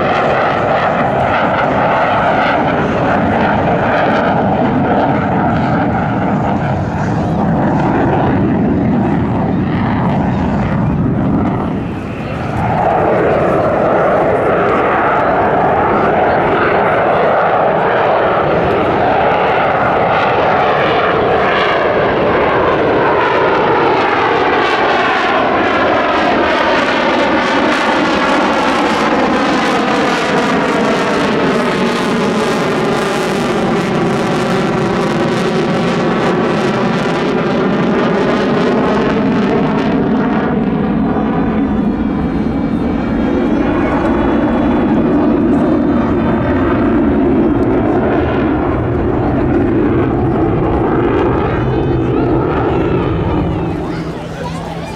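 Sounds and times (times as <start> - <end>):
jet engine passing: 0.0 - 54.9.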